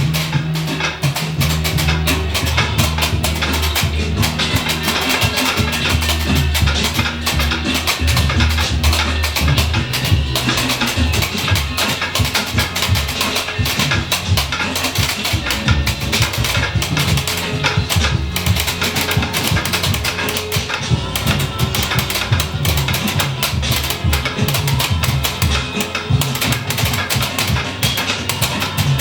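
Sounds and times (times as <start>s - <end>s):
deep bass line: 0.0s - 29.0s
drum and percussion hits: 0.0s - 29.0s.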